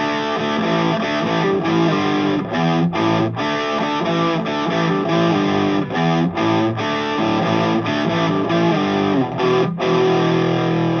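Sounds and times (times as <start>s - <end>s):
distorted electric guitar riff: 0.0s - 11.0s.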